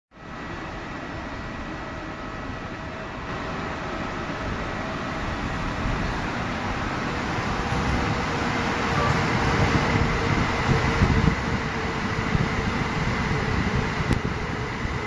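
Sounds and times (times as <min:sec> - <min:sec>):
electric train rumble and hiss: 0:00.2 - 0:15.0.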